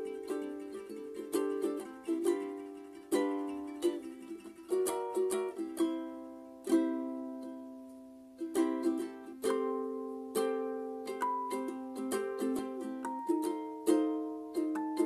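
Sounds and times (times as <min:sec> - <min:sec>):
plucked string instrument chords: 0:00.0 - 0:15.0.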